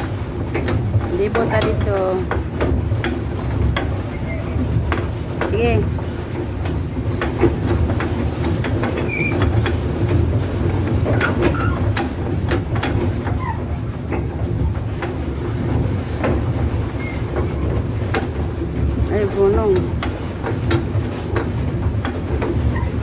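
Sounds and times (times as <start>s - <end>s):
paddle drive churning water: 0.0s - 23.0s.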